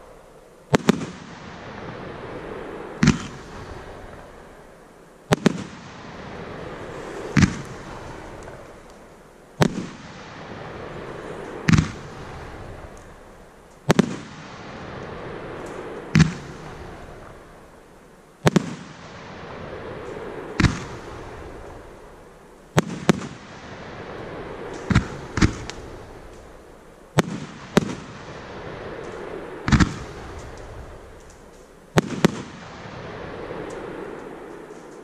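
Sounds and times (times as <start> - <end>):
firework bangs: 0.7 - 35.0
firework hiss: 0.7 - 35.0.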